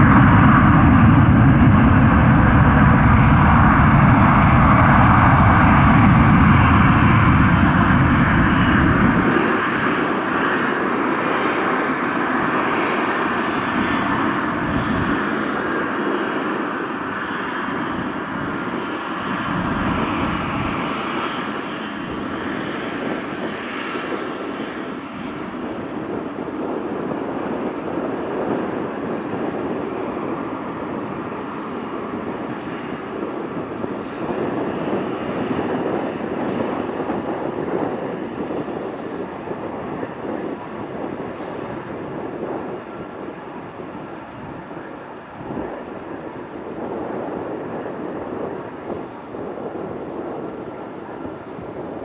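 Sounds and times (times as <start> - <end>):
jet engines at taxi power: 0.0 - 52.0.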